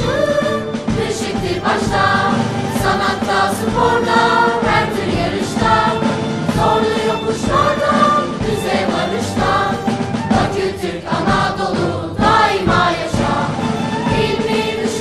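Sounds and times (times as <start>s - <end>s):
choir singing: 0.0s - 15.0s
steady beat: 0.0s - 15.0s.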